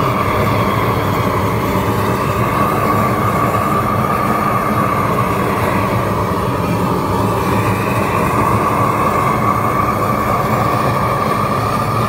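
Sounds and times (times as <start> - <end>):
roofing torch flame rushing: 0.0 - 12.0.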